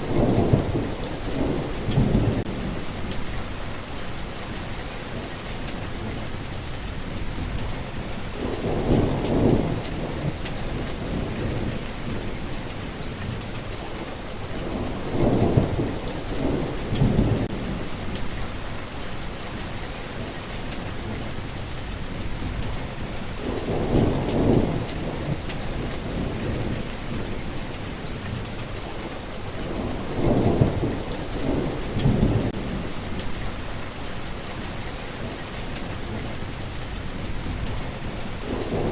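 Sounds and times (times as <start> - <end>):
steady rain falling: 0.0 - 38.9
thunder rumbling: 0.0 - 38.9.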